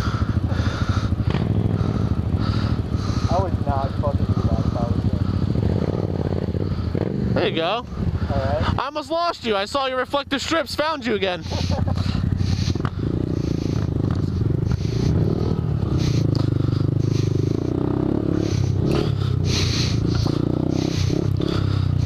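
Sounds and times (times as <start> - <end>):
motorcycle engine running: 0.0 - 9.0, 9.9 - 22.0.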